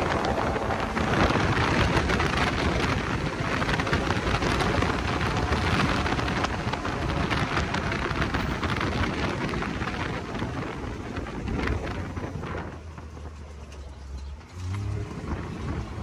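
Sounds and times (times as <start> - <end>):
wind buffeting microphone: 0.0 - 13.6, 14.8 - 16.0
engine droning: 0.0 - 16.0.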